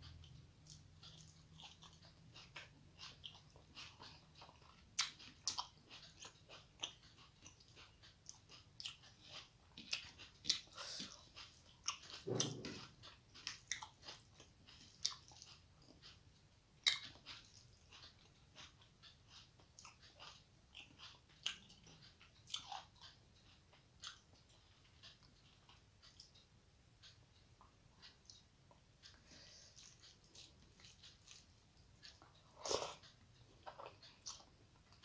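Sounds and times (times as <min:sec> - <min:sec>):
chewing and lip-smacking: 0:00.0 - 0:35.0.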